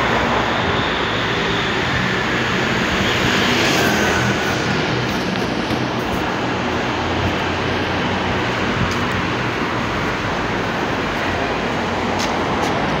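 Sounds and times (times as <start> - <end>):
traffic rumble under overpass: 0.0 - 13.0.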